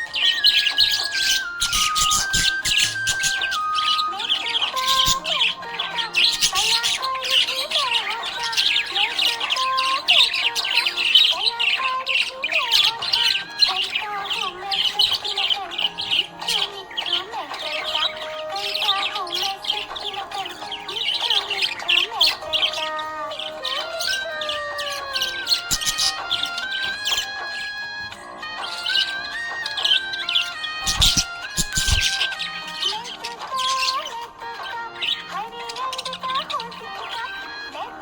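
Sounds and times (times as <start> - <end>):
background music: 0.0 - 38.0
parrots chattering and chirping: 0.0 - 38.0.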